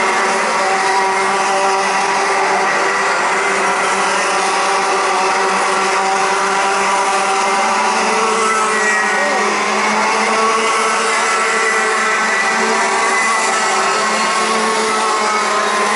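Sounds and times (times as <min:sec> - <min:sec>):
kart engines droning: 0:00.0 - 0:15.9.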